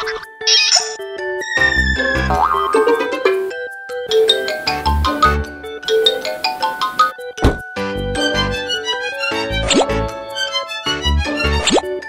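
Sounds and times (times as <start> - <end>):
bouncy cartoon music: 0.0 - 12.0.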